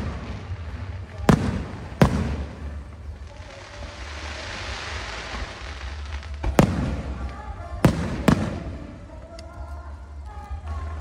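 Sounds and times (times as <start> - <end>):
firework bangs: 0.0 - 9.1
crackling hiss: 0.0 - 11.0.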